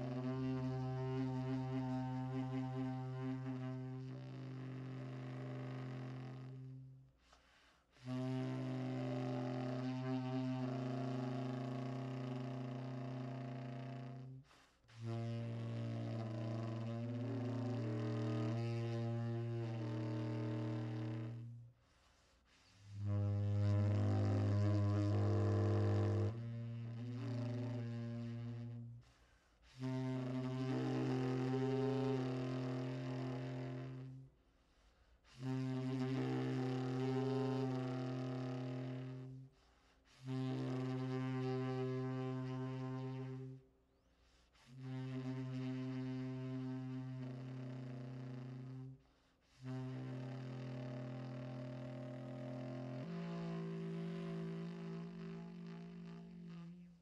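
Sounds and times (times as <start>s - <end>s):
tenor saxophone long low notes: 0.0s - 7.1s, 7.9s - 21.7s, 22.6s - 34.4s, 35.2s - 43.8s, 44.4s - 57.0s.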